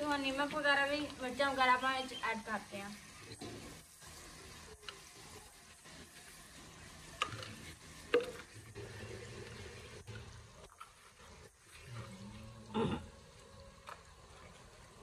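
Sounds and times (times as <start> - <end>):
food frying in a pan: 0.0 - 15.0.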